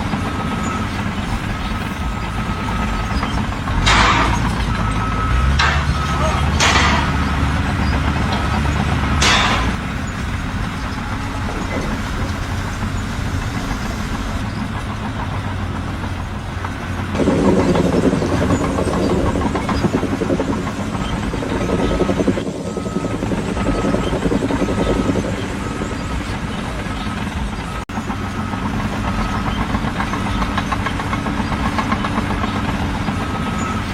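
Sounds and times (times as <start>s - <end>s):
heavy vehicle engine running: 0.0s - 33.9s.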